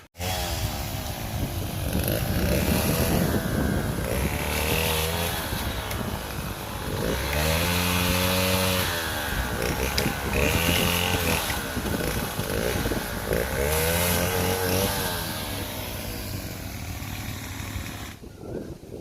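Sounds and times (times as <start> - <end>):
small engine revving: 0.0 - 18.6.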